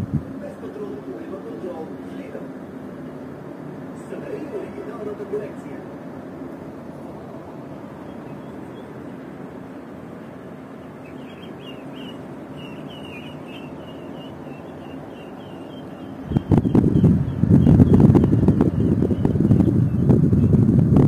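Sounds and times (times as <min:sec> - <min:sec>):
air conditioner fan running: 0:00.0 - 0:21.0.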